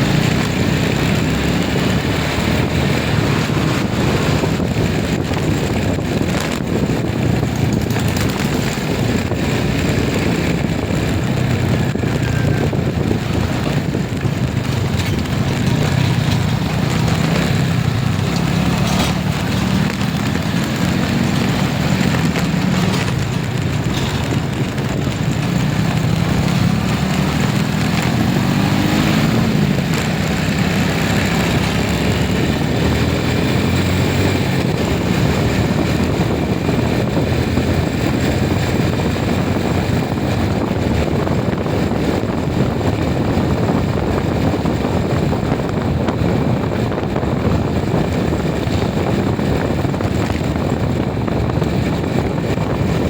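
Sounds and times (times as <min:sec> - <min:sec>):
road and wind noise: 0:00.0 - 0:53.0
vehicle engine accelerating: 0:00.0 - 0:53.0.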